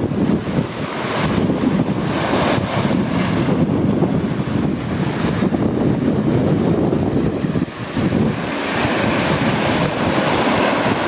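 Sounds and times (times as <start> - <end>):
surf washing over boulders: 0.0 - 11.0
wind buffeting microphone: 0.0 - 11.0.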